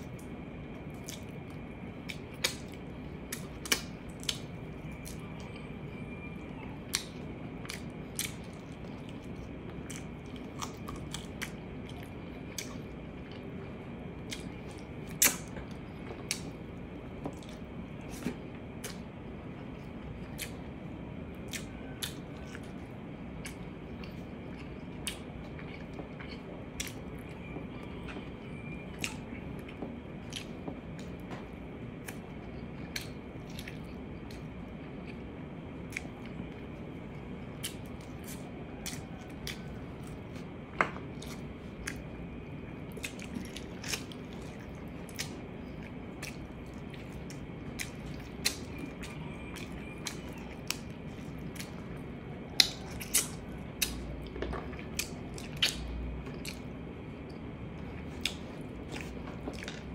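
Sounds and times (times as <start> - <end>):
chewing and lip smacking: 0.0 - 19.1, 21.4 - 31.3, 32.0 - 59.9.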